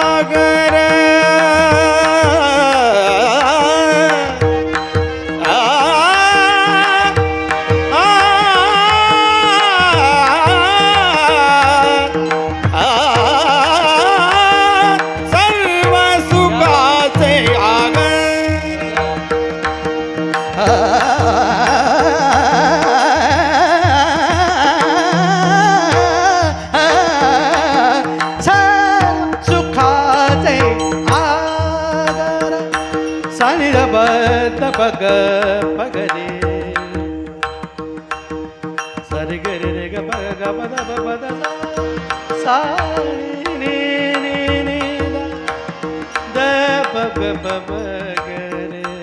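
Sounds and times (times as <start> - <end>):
man singing a wordless line: 0.0 - 37.2, 39.0 - 49.0.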